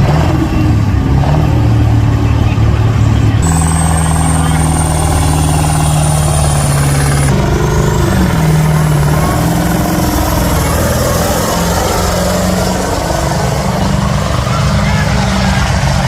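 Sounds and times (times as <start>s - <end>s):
truck diesel engine under load: 0.0s - 16.0s.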